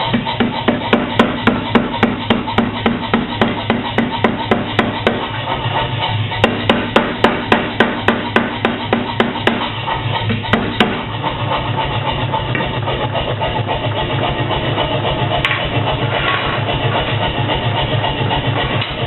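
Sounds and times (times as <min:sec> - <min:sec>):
power hammer striking steel: 0:00.0 - 0:05.4, 0:06.3 - 0:11.4, 0:13.9 - 0:19.0
machine running hum: 0:00.0 - 0:19.0.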